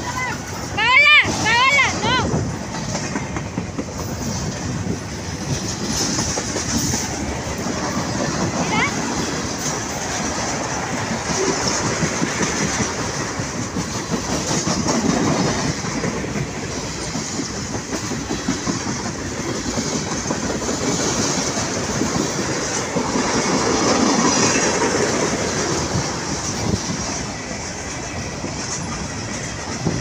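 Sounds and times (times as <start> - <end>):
steel wheels rumbling on rail: 0.0 - 30.0
clatter over rail joints: 2.4 - 30.0.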